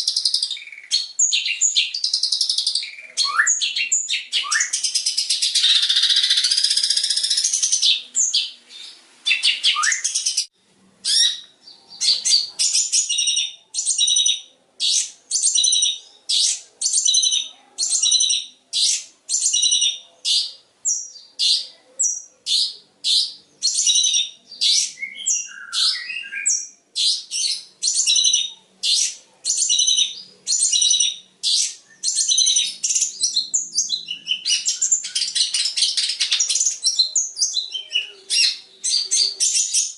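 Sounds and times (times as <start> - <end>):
bird harsh repeated notes: 0.0 - 39.9.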